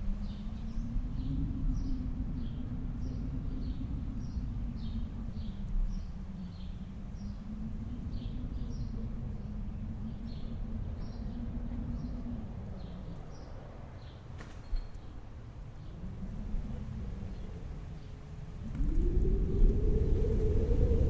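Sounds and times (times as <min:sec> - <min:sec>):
snowstorm wind howling: 0:00.0 - 0:21.0.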